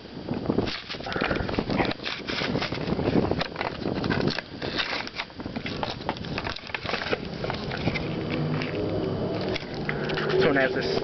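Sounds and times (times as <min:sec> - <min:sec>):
foil wrapper crinkling: 0:00.4 - 0:11.0
cards being handled: 0:00.6 - 0:11.0.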